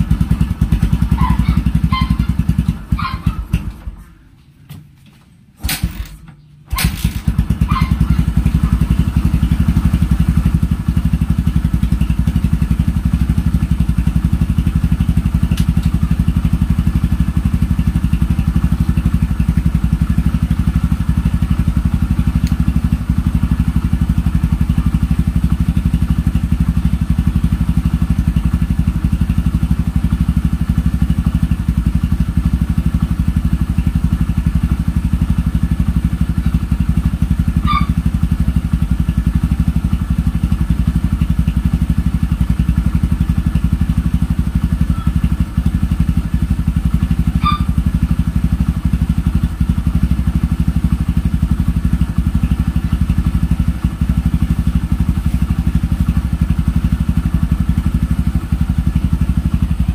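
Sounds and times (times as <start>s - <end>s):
motorcycle engine idling: 0.0s - 4.3s, 5.8s - 59.9s
motorcycle engine kick-started: 0.0s - 4.9s, 5.6s - 59.9s.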